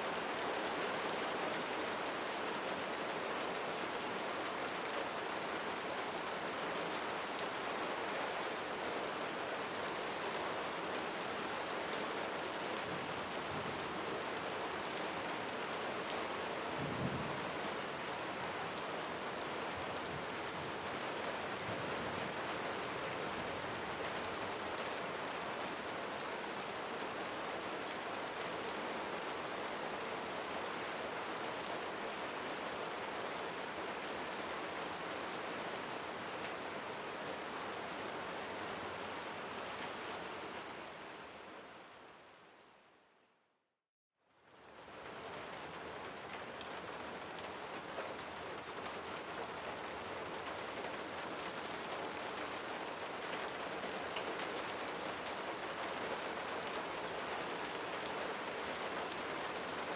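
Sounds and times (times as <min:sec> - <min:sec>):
rain falling on leaves: 0:00.0 - 0:43.2, 0:44.2 - 0:59.9.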